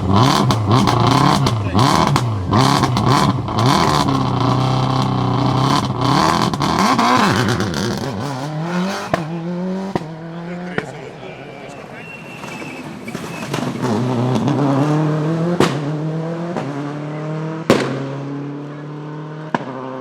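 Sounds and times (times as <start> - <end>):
exhaust pops and crackles: 0.0 - 18.5, 19.4 - 19.9
rally car engine revving: 0.0 - 20.0.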